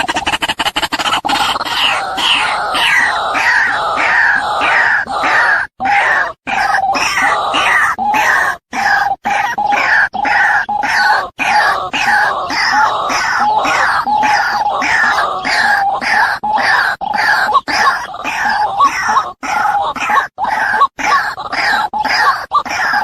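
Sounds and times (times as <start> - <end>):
waterhen harsh calls: 0.0 - 23.0.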